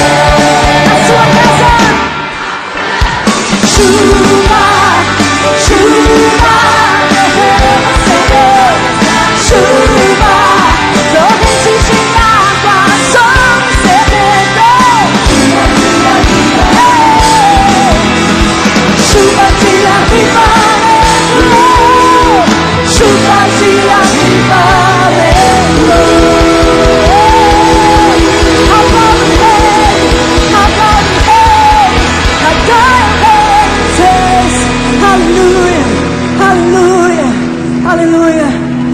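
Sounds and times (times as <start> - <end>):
gospel band with drums: 0.0 - 38.9
woman singing lead: 0.0 - 38.9.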